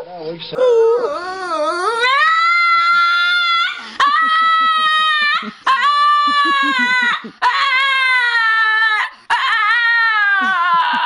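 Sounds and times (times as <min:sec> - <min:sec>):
dog howling: 0:00.6 - 0:11.0.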